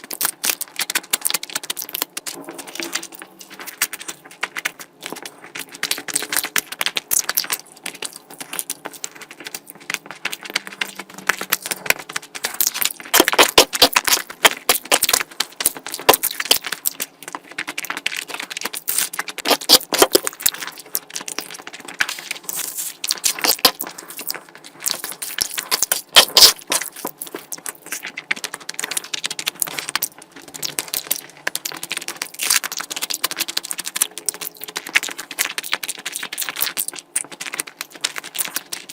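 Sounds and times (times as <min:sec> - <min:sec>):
wet chewing clicks and smacks: 0:00.0 - 0:38.9.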